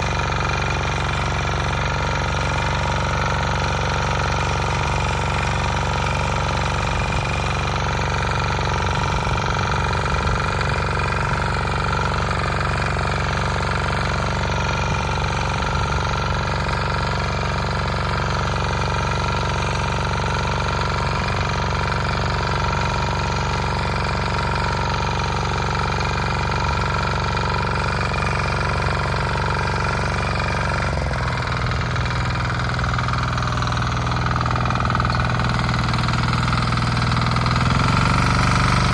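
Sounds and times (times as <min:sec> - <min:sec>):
motor hoe engine running: 0:00.0 - 0:38.9.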